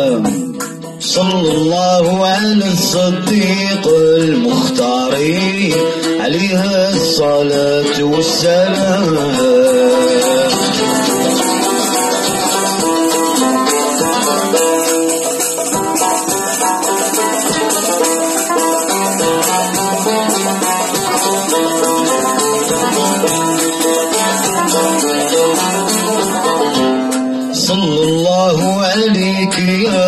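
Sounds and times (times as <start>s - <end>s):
light steady percussion: 0.0s - 30.0s
plucked string instrument melody: 0.0s - 30.0s.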